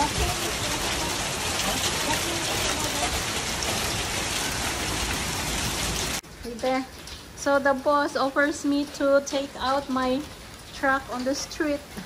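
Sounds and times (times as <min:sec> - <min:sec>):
heavy rain on flooded street: 0:00.0 - 0:07.5, 0:08.1 - 0:12.0.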